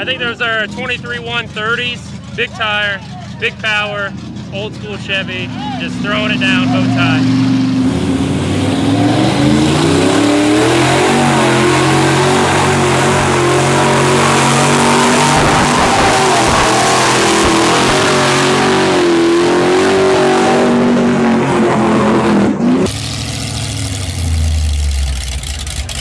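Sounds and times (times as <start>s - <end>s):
low engine rumble: 0.0s - 18.1s, 22.6s - 26.0s
truck engine revving: 0.0s - 26.0s.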